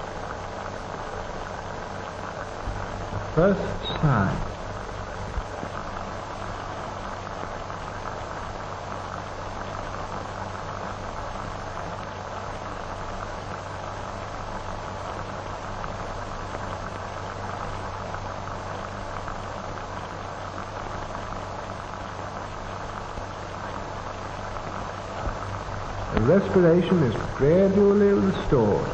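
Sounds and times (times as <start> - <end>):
film soundtrack hiss: 0.0 - 28.9
low hum: 0.0 - 28.9.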